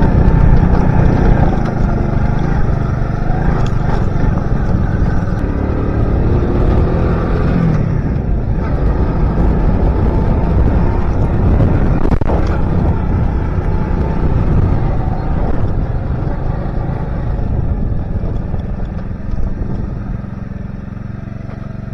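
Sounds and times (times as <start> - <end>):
wind rushing: 0.0 - 20.0
motorcycle engine running: 0.0 - 21.9
road noise: 0.0 - 21.9.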